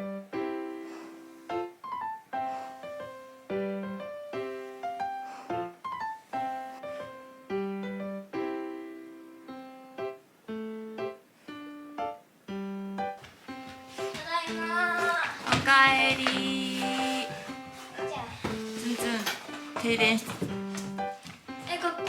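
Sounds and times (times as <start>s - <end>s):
gentle solo piano: 0.0s - 22.0s.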